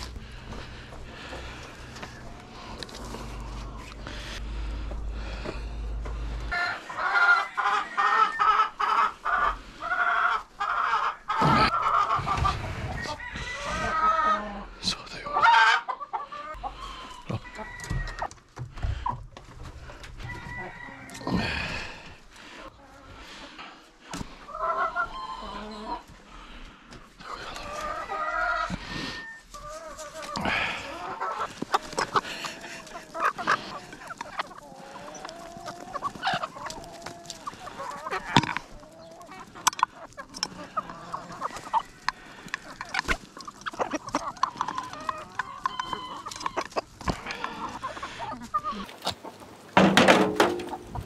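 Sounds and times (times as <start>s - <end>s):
hen clucking: 0.0s - 51.0s.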